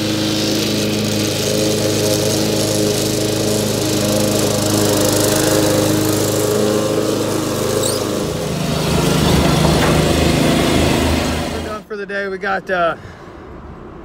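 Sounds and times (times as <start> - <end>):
lawn mower engine running: 0.0 - 11.9
riding mower engine pulsing: 0.0 - 11.9.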